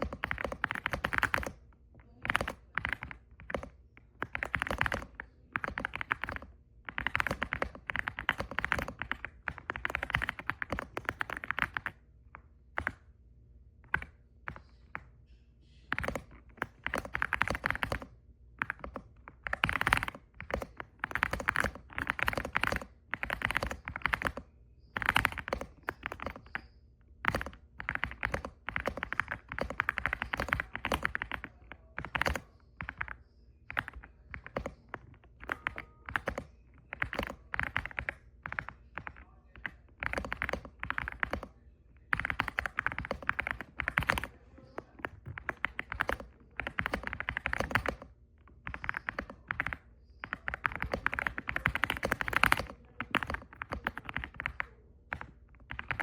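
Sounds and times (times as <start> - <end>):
typing on mechanical keyboard: 0.0 - 13.1, 13.8 - 15.1, 15.9 - 56.0.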